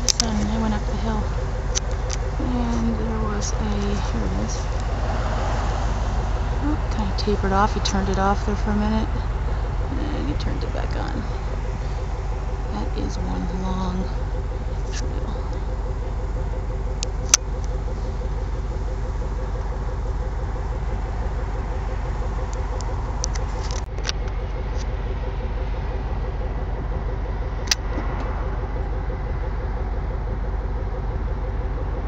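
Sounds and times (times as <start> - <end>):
constant hum: 0.0 - 32.0
low mechanical rumble: 0.0 - 32.0.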